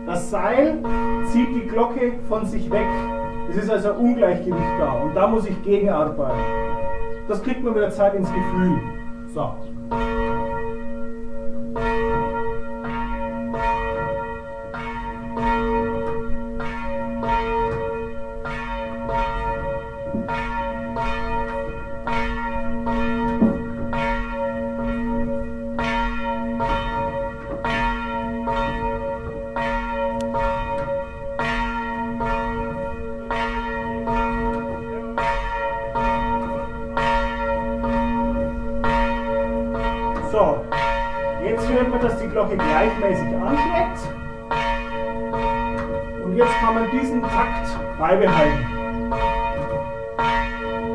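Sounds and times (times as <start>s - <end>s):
church bell ringing: 0.0s - 50.9s.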